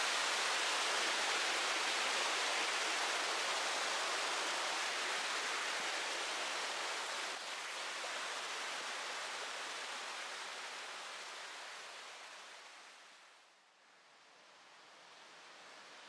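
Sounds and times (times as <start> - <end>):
stream rushing over rocks: 0.0 - 13.3.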